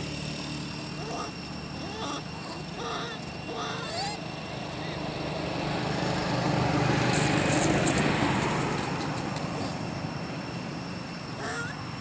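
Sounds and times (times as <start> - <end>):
passing vehicle engine drone: 0.0 - 12.0.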